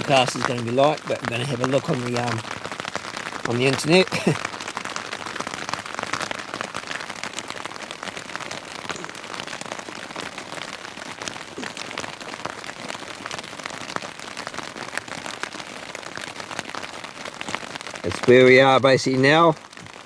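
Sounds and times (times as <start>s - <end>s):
raindrops hitting a surface: 0.0s - 20.0s.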